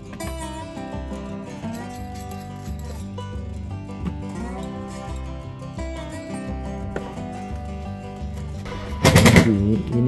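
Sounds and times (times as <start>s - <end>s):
acoustic guitar instrumental: 0.0s - 10.0s.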